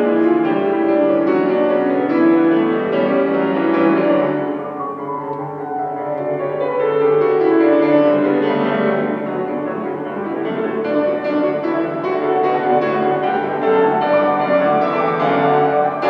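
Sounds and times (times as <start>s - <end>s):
classical piano piece: 0.0s - 16.0s.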